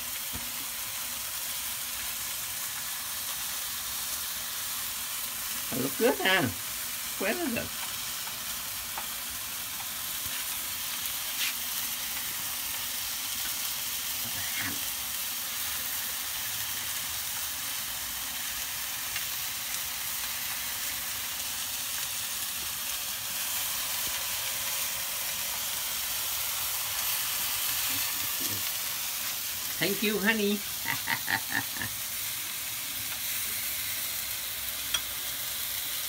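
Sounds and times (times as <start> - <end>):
fries frying in bubbling oil: 0.0 - 36.0
patties sizzling in a pan: 0.0 - 36.0.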